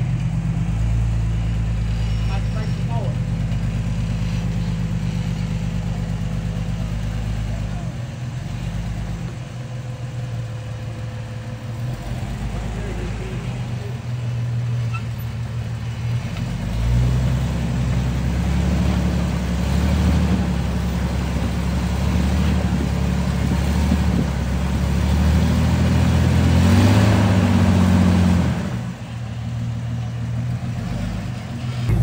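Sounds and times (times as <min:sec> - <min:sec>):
engine working under load: 0:00.0 - 0:32.0.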